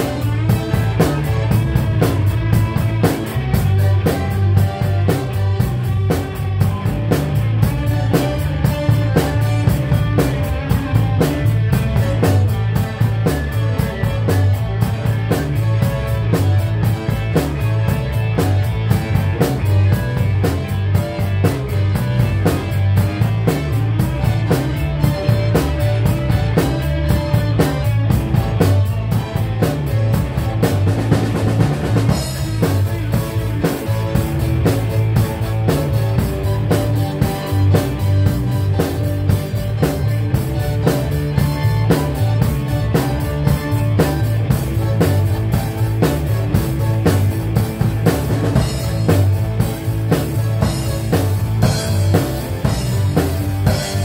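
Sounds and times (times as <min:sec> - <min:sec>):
drum kit beat: 0:00.0 - 0:54.0
rock band playing instrumental: 0:00.0 - 0:54.0.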